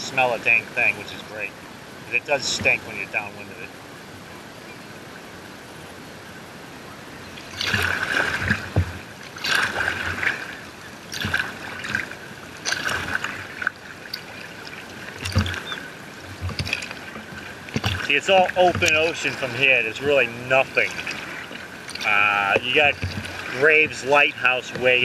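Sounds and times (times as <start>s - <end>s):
kayak paddle splashing: 0.0s - 4.7s, 5.3s - 25.0s
wind and water hiss: 0.0s - 25.0s.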